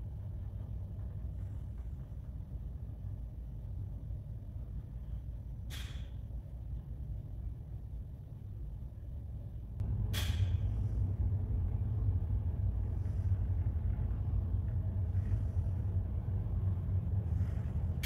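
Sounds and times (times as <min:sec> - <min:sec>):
ship engines and ventilation drone: 0:00.0 - 0:18.0.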